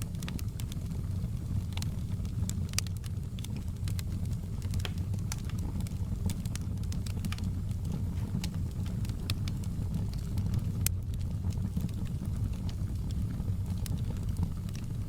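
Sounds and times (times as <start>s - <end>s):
campfire low rumble: 0.0s - 15.0s
wood crackling and popping: 0.0s - 15.0s.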